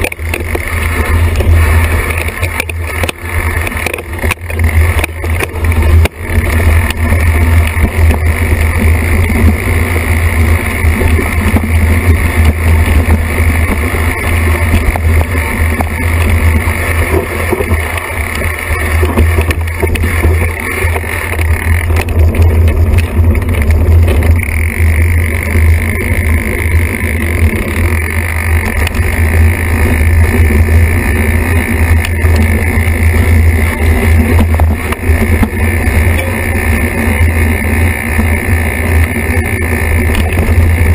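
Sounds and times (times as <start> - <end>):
bike rattling: 0.0 - 40.9
bike tyres on dirt trail: 0.0 - 40.9
wind rumble: 0.0 - 40.9.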